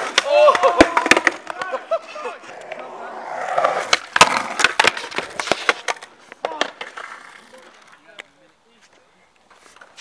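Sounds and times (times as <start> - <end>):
skateboard clattering on ground: 0.0 - 10.0
skateboard wheels rolling on concrete: 0.0 - 10.0.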